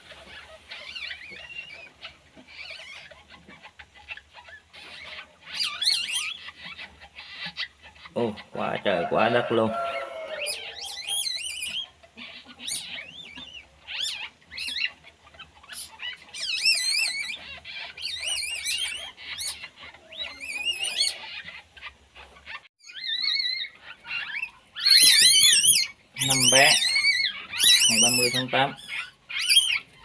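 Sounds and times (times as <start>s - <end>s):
newborn animals squealing: 0.0s - 30.0s.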